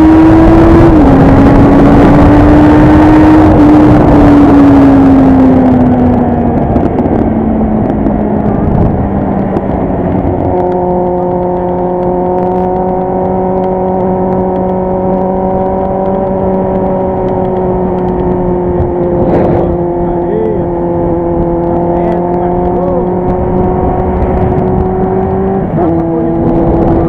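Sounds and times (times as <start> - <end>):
motorcycle engine and exhaust: 0.0 - 27.0.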